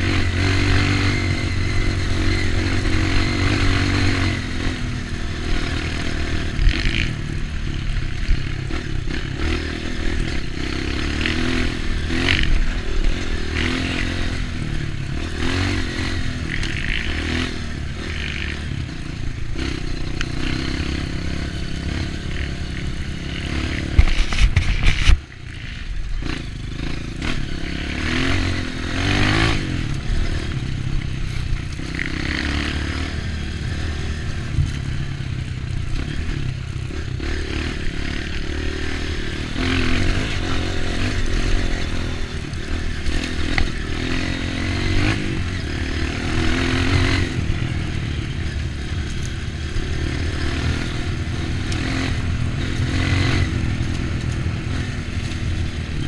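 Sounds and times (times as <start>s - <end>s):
rattling and scraping over ground: 0.0s - 27.8s, 28.4s - 56.0s
dirt bike engine revving: 0.0s - 56.0s.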